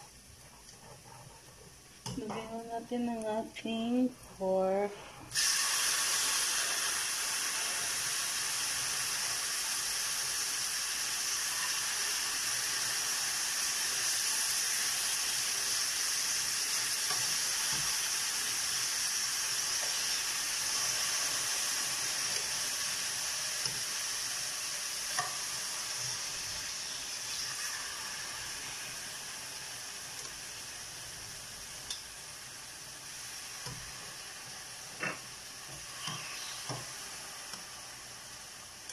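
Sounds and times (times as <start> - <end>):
meat sizzling in a frying pan: 5.3 - 38.9.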